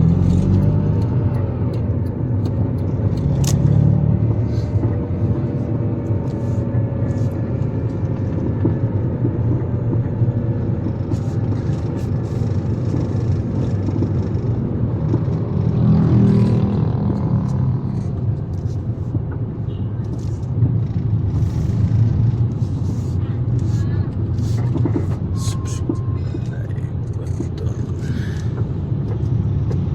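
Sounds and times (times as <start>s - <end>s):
road noise rumble: 0.0s - 29.9s
vehicle engine drone: 0.0s - 29.9s.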